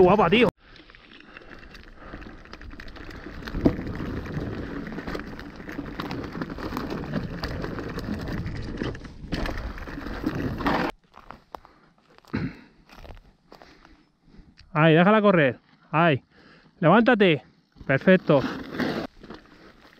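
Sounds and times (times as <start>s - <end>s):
bike tyres crunching over stones: 0.0s - 13.9s, 17.6s - 19.9s.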